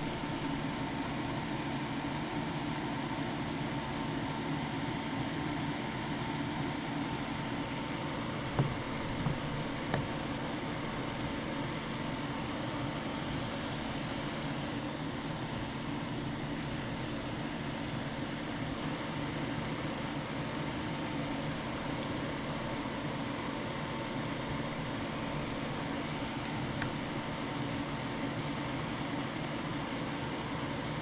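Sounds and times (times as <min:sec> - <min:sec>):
fan hum and hiss: 0:00.0 - 0:31.0.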